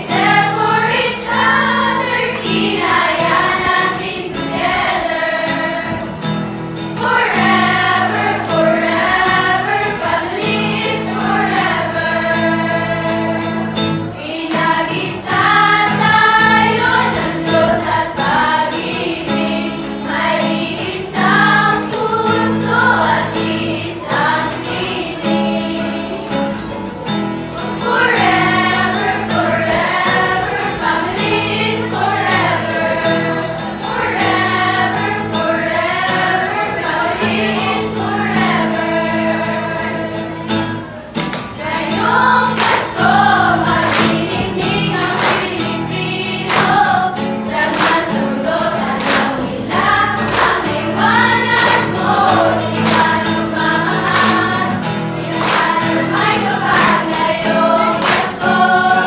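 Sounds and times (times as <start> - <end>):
women singing together: 0.0 - 6.3, 6.9 - 26.7, 27.7 - 40.8, 41.4 - 59.0
strummed acoustic guitar: 0.0 - 59.0.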